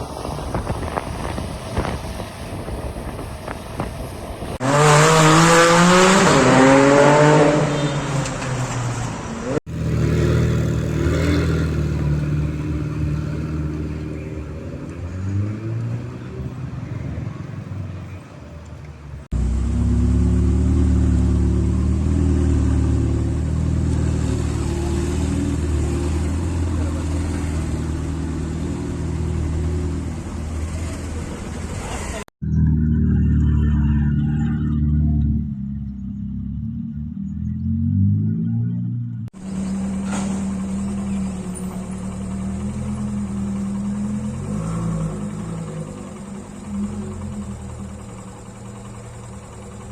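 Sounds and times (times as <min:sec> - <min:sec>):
engine revving: 0:03.8 - 0:18.4, 0:19.2 - 0:49.9
deep steady engine note: 0:09.4 - 0:49.9.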